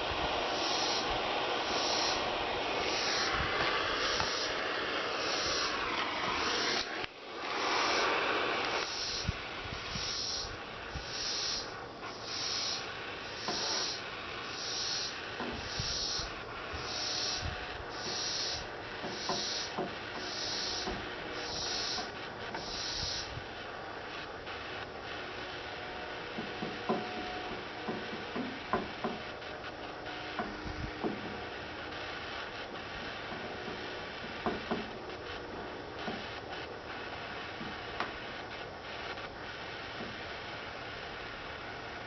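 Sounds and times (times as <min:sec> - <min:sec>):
propane torch hissing: 0:00.0 - 0:42.0.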